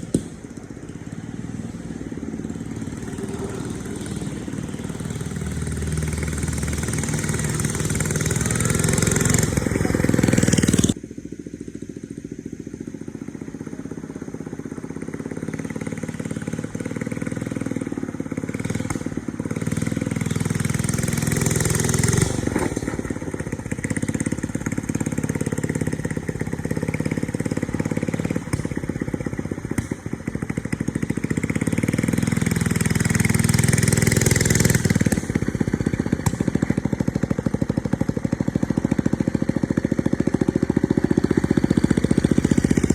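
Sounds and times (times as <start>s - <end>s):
mini bike engine revving: 0.0s - 42.9s.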